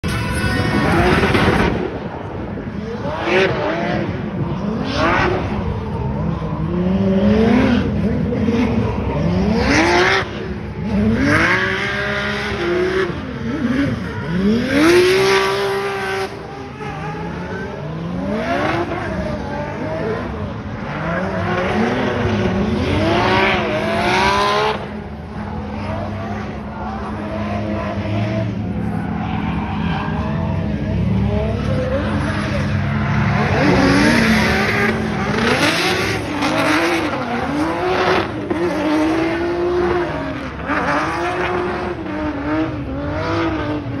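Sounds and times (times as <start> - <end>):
car engine revving hard: 6.2 - 44.0.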